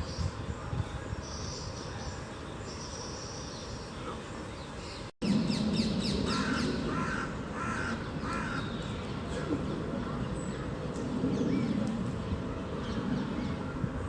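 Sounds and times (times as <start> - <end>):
harsh bird calls: 0.0 - 14.0
steady background noise: 0.0 - 14.0.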